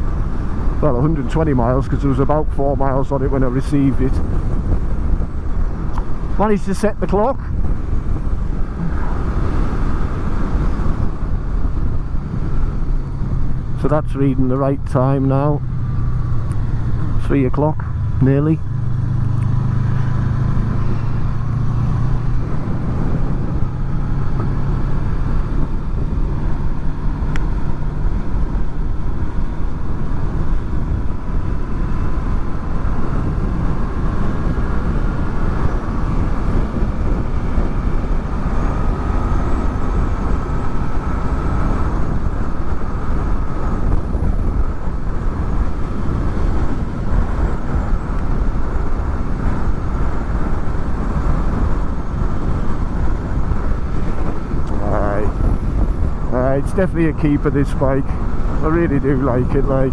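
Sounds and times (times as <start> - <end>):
motorcycle engine drone: 0.0 - 59.9
wind rumble on microphones: 0.0 - 59.9.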